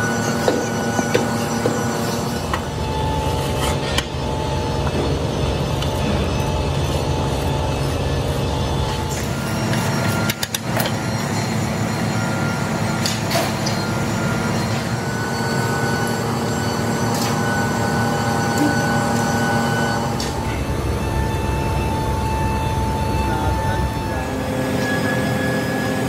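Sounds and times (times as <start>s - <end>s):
steady drone with held tones: 0.0s - 26.0s.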